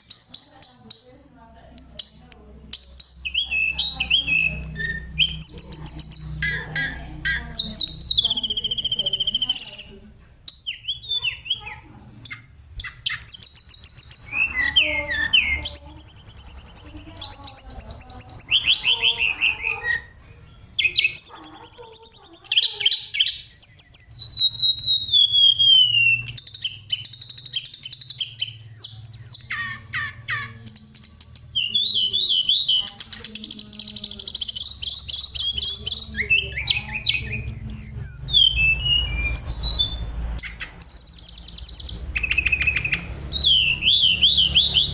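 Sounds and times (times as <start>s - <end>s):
songbird singing whistles and trills: 0.0s - 1.3s, 2.0s - 44.9s.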